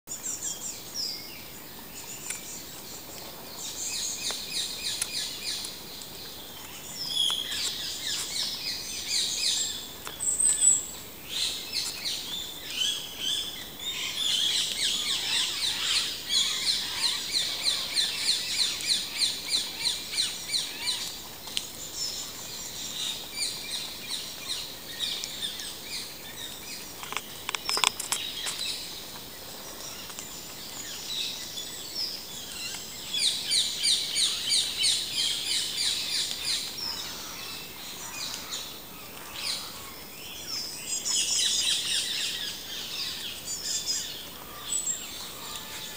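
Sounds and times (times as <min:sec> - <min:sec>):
small birds singing and chirping: 0:00.1 - 0:45.9.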